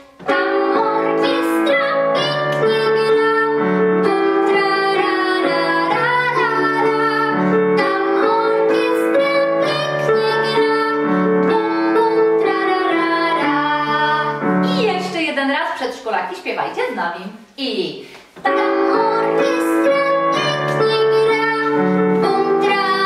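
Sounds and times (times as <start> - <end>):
girl singing: 0.0 - 15.1, 18.4 - 23.0
digital piano accompaniment: 0.0 - 15.8, 18.4 - 23.0.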